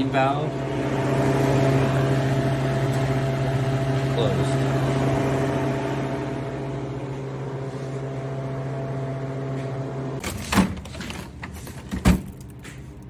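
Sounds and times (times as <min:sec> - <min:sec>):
compressor humming: 0:00.0 - 0:13.0.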